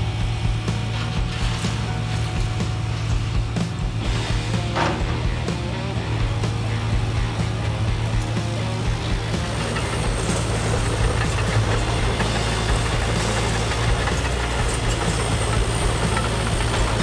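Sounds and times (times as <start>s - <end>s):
engine-like low hum: 0.0s - 17.0s.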